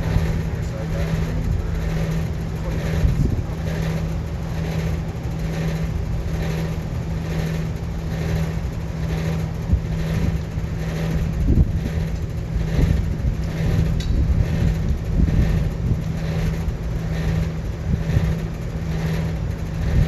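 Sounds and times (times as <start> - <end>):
machine motor hum with pulsing: 0.0 - 20.0.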